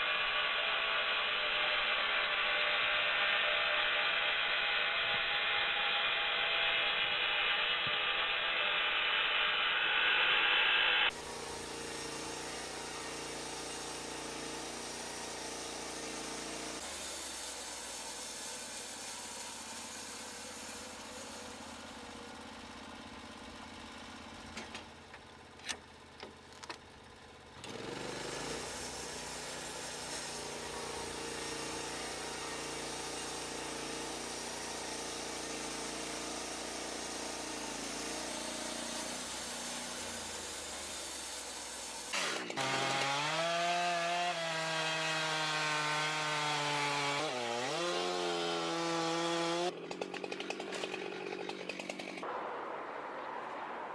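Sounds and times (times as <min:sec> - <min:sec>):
sawmill machinery humming: 0:00.0 - 0:52.3.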